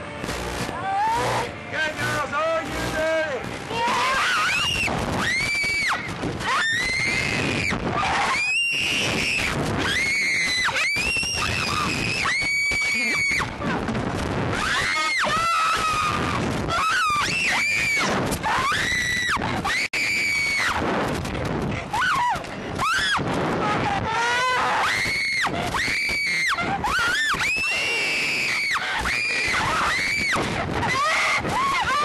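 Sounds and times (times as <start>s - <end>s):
steady rushing noise: 0.0s - 32.0s
girls screaming: 3.7s - 13.5s, 14.5s - 20.8s, 21.9s - 32.0s.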